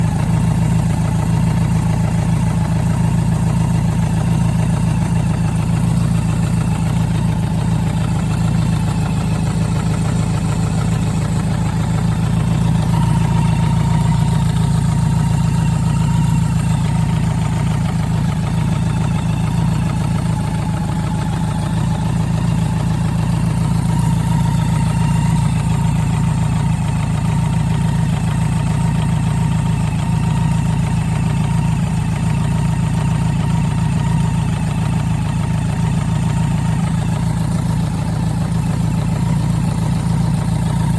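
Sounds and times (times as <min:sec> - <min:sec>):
engine knock: 0:00.0 - 0:40.9
motorcycle engine idling: 0:00.0 - 0:40.9.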